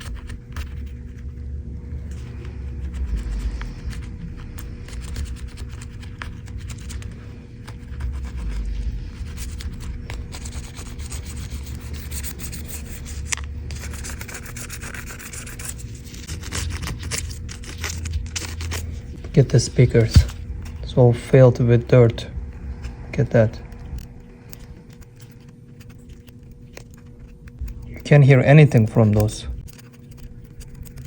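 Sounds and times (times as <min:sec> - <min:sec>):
steady low hum: 0:00.0 - 0:31.0
scratchy scrubbing strokes: 0:00.8 - 0:28.0.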